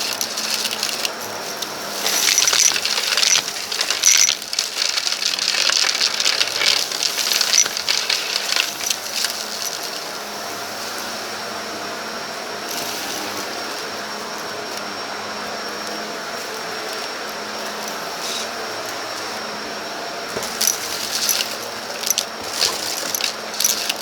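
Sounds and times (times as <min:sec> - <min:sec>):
vacuum cleaner motor hum: 0:00.0 - 0:24.0.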